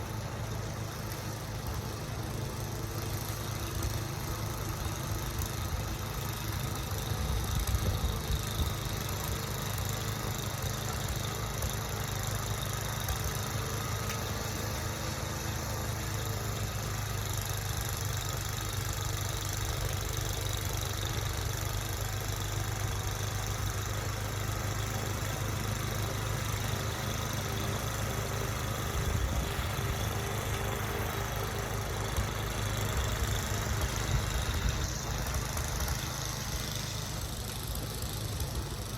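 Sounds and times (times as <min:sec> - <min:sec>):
engine running at low revs: 0:00.0 - 0:38.9.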